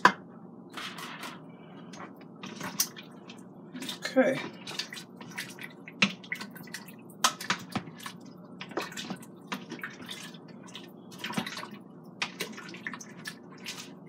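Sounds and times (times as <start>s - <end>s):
liquid sloshing: 1.9s - 14.0s.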